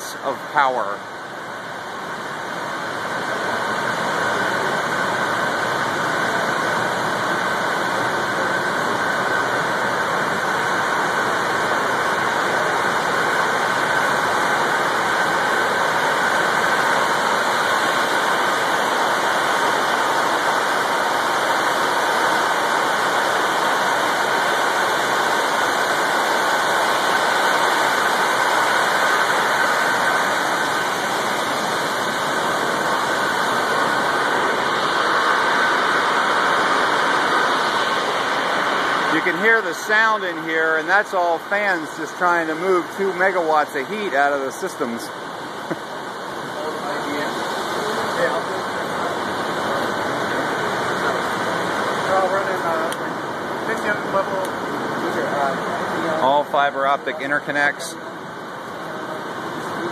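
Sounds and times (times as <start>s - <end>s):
server cooling fans rushing: 0.0s - 59.9s.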